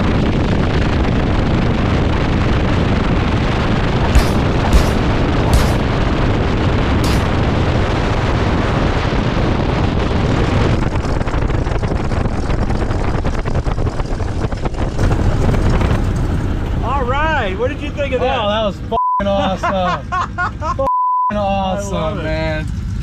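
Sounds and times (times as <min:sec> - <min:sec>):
wind rush on microphone: 0:00.0 - 0:18.9.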